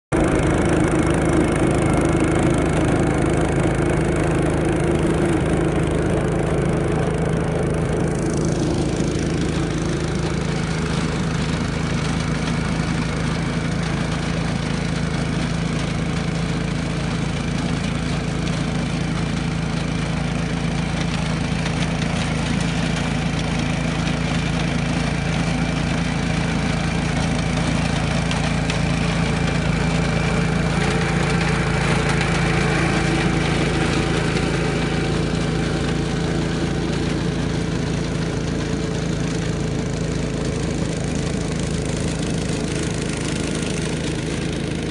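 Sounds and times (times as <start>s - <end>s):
small petrol engine running: 0.1s - 44.9s.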